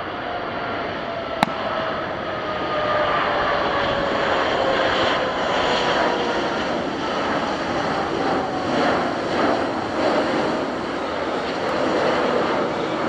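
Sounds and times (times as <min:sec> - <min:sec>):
jet engines roaring and whining: 0:00.0 - 0:13.0.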